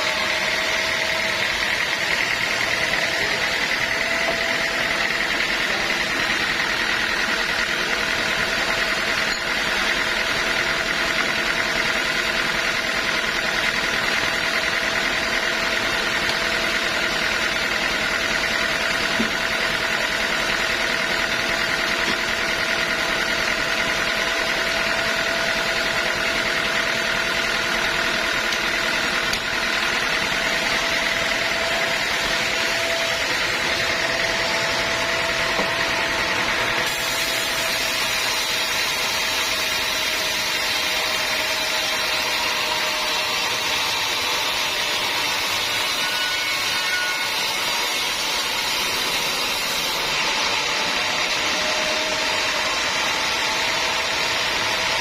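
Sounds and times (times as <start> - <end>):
machinery humming with held tones: 0.0 - 55.0.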